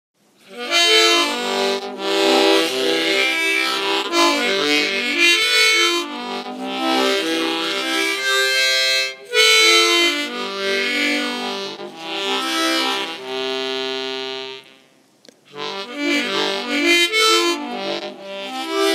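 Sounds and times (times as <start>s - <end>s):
harmonica melody with chords: 0.4s - 18.9s.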